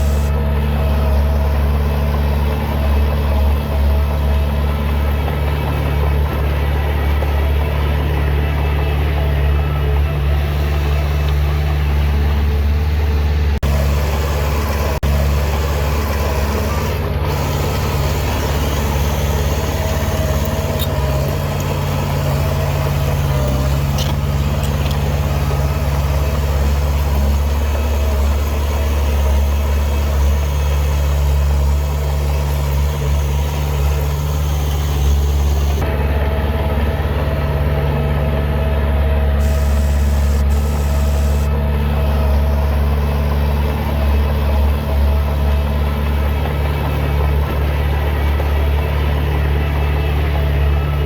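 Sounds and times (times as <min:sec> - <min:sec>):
heavy diesel engine droning: 0:00.0 - 0:51.0.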